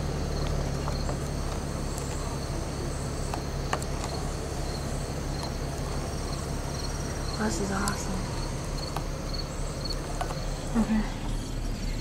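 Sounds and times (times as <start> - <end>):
insects trilling: 0.0 - 12.0
low rumble: 0.0 - 12.0.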